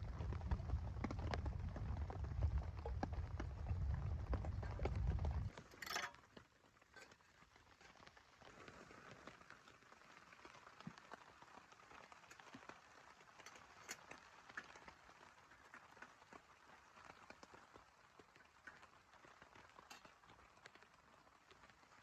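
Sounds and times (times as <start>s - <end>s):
faint rain hiss: 0.0s - 22.0s
raindrops tapping: 0.0s - 22.0s.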